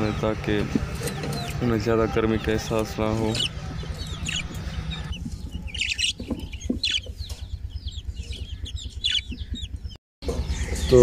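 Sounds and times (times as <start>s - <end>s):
low steady hum: 0.0s - 10.8s
budgerigars chirping: 0.0s - 11.0s.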